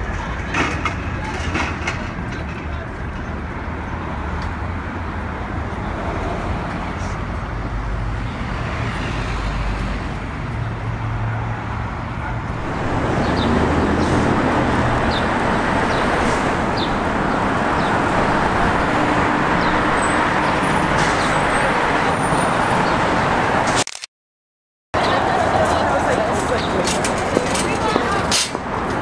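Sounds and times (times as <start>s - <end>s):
bus engine and road noise: 0.0s - 24.1s, 25.0s - 29.0s
street traffic passing: 0.0s - 24.1s, 25.0s - 29.0s.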